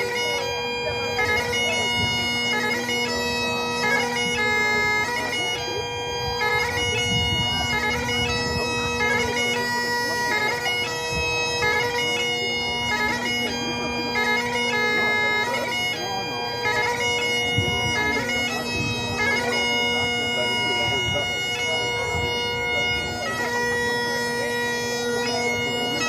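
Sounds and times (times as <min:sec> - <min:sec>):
bagpipe chanter melody: 0:00.0 - 0:26.0
bagpipe drones: 0:00.0 - 0:26.0.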